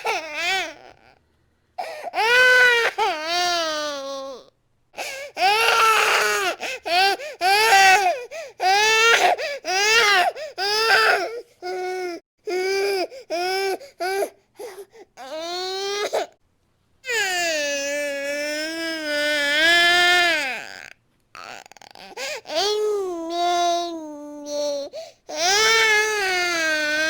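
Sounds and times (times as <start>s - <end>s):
infant crying: 0.0s - 1.2s, 1.8s - 16.4s, 17.1s - 27.0s.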